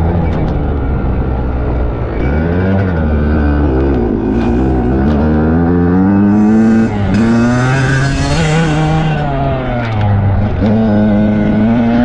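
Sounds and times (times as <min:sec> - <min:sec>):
dirt bike engine revving: 0:02.2 - 0:12.0.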